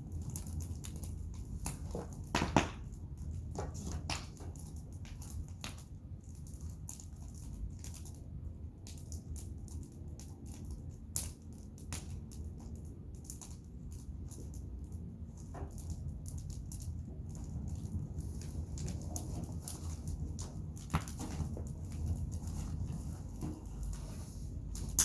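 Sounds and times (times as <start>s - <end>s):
bonfire crackling and popping: 0.0s - 24.0s, 24.6s - 25.0s.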